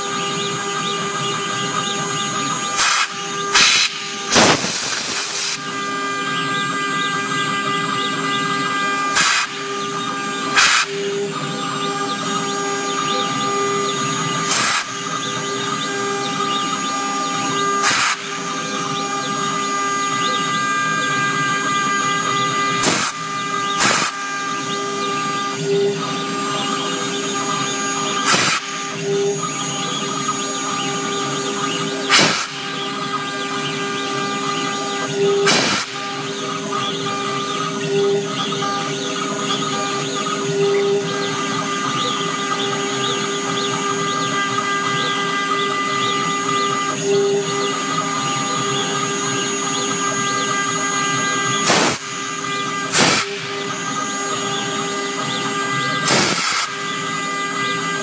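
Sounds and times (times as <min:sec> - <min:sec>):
router spindle whine: 0:00.0 - 0:58.0.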